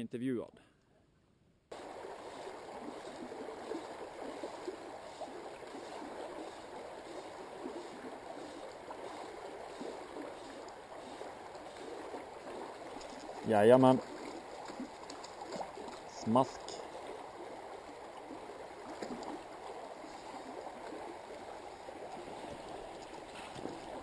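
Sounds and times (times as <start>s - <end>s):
stream gurgling: 1.7s - 24.0s.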